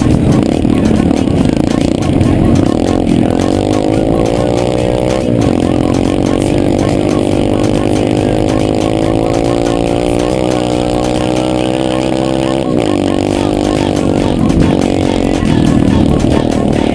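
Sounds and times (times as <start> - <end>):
dirt bike engine running: 0.0 - 16.9.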